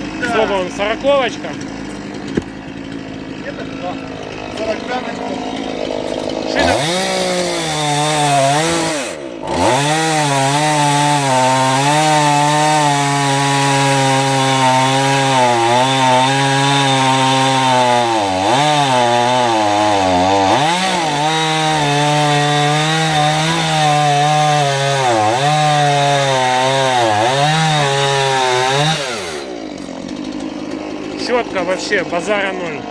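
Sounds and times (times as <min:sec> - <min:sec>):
chainsaw sawing through log: 0:00.0 - 0:32.9.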